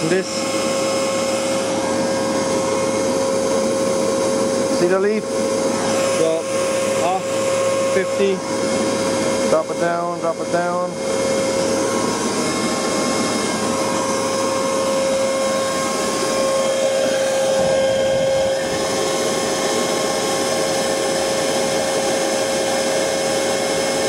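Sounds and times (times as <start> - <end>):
leaf blower running: 0.0 - 24.0.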